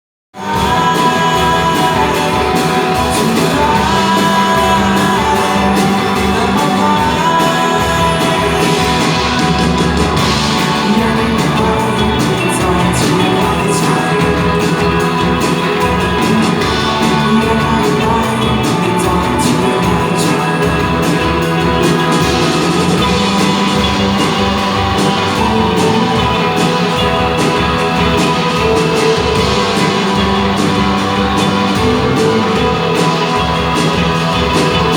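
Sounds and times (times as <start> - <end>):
live rock band playing: 0.4 - 34.9
person singing: 0.4 - 34.9.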